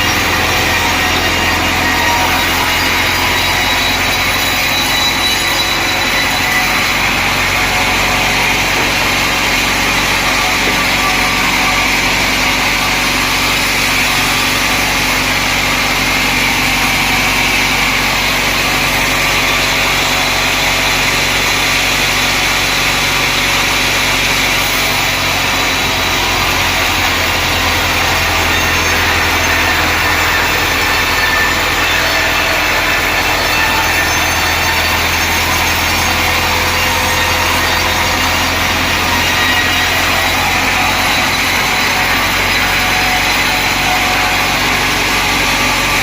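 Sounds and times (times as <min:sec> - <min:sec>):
deeper machine hum: 0:00.0 - 0:46.0
sawmill machinery running: 0:00.0 - 0:46.0.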